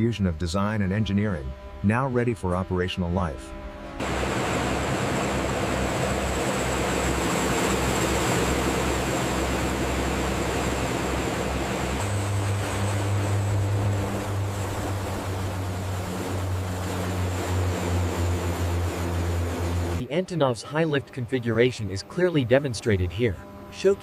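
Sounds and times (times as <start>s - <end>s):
turboprop engines running: 0.0s - 24.0s.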